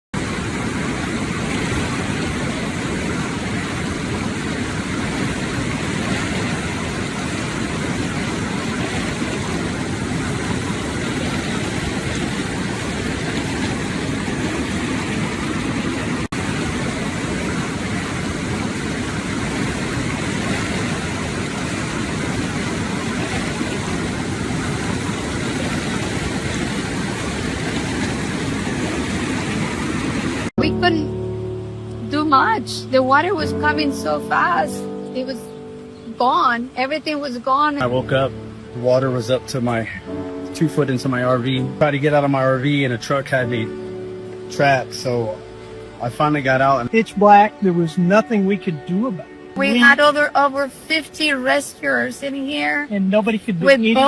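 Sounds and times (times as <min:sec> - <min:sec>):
floodwater rushing: 0:00.2 - 0:31.3, 0:32.1 - 0:54.0.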